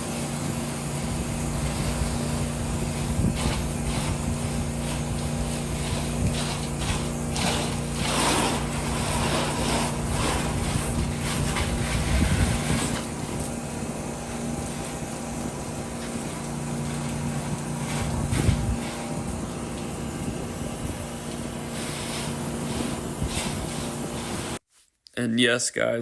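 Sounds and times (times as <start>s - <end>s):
pressure washer engine hum: 0.0s - 24.6s
water spray hiss: 0.0s - 24.6s.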